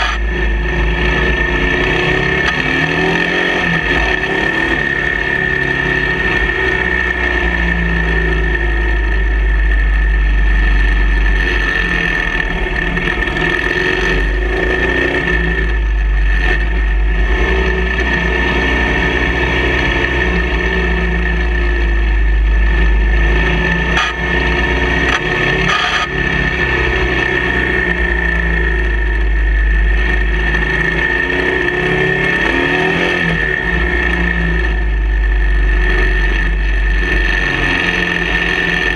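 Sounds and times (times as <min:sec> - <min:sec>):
motorcycle engine running: 0:00.0 - 0:38.9
steady high whine: 0:00.0 - 0:38.9.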